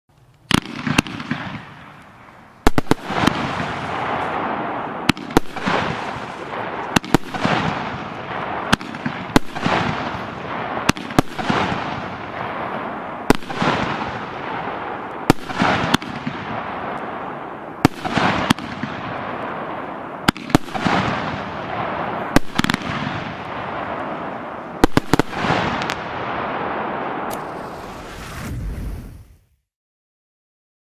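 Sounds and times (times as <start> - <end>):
crackling firework stars: 0.1 - 29.6
firework launch cracks and bursts: 0.5 - 29.5.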